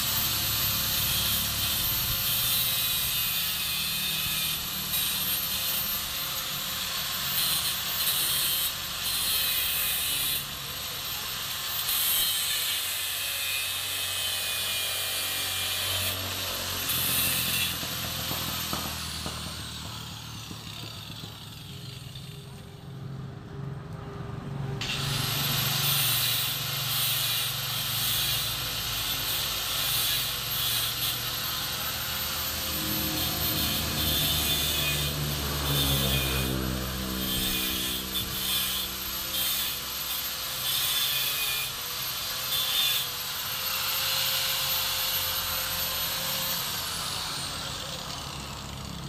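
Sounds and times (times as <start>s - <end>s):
power tool whining on metal: 0.0s - 22.9s, 24.8s - 49.0s.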